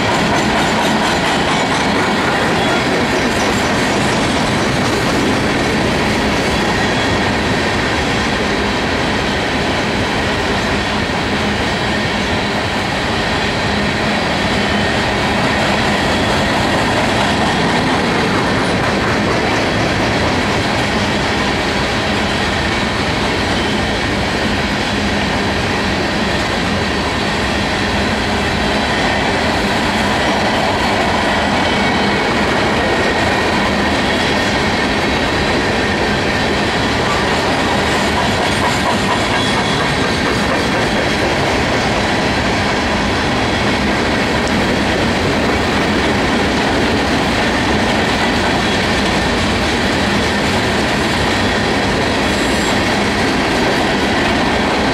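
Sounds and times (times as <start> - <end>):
train wheels on track: 0.0 - 54.9.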